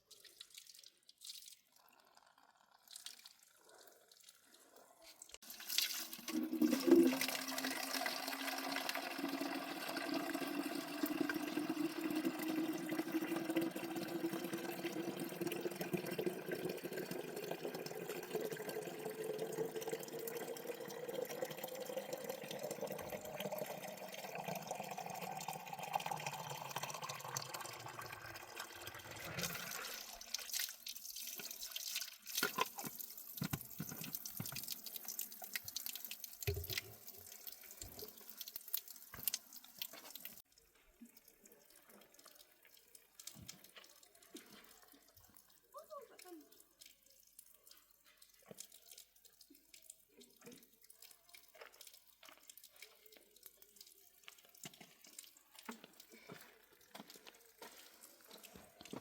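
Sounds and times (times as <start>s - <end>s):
water running into a container: 0.0s - 59.0s.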